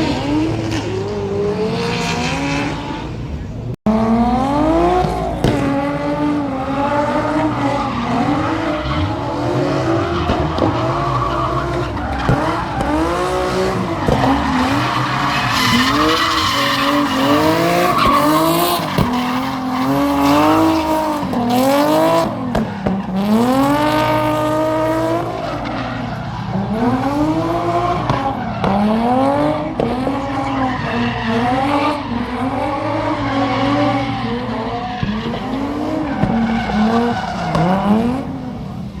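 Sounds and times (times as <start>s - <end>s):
car engine revving: 0.0s - 39.0s
tyres squealing and skidding: 0.0s - 39.0s.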